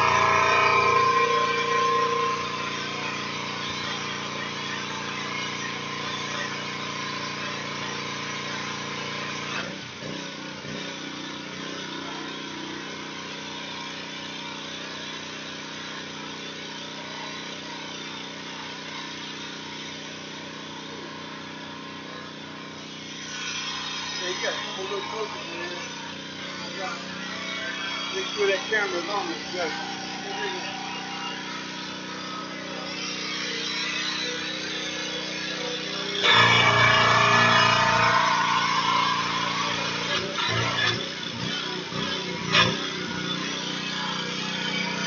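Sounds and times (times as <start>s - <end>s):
pressure washer engine hum: 0.0s - 45.0s.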